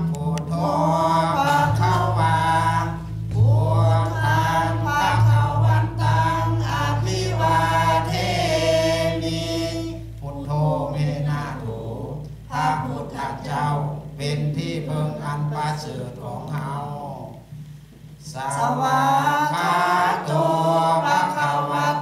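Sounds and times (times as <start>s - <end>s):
group chanting in unison: 0.0s - 17.4s, 18.2s - 22.0s.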